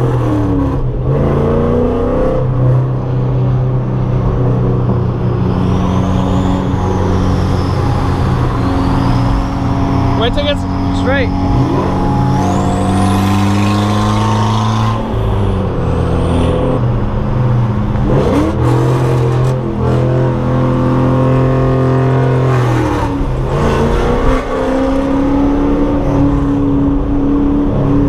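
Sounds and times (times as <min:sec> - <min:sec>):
car engine running hard: 0:00.0 - 0:28.0.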